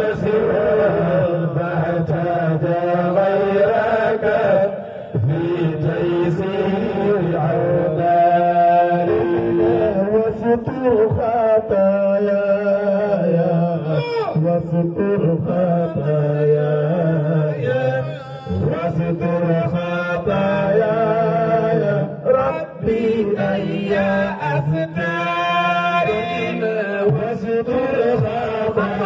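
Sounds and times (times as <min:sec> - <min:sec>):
man chanting into a microphone: 0:00.0 - 0:29.0.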